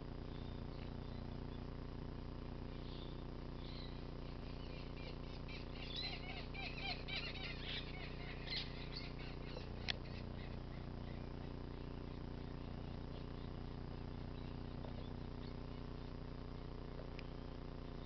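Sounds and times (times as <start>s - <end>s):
bird twittering: 0.2s - 1.7s, 2.6s - 16.2s.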